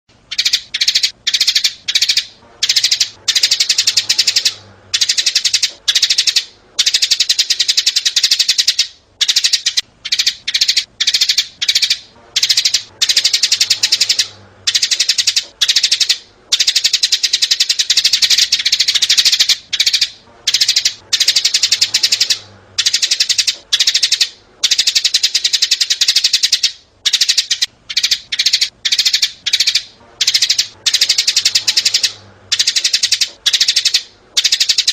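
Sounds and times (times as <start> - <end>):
sparrows chirping: 0.3 - 34.9.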